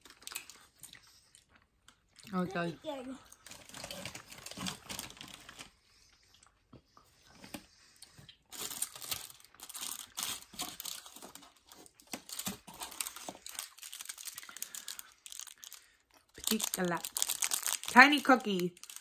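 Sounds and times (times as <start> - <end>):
plastic wrappers crinkling and tearing: 0.0 - 1.1, 1.8 - 5.8, 8.4 - 19.0.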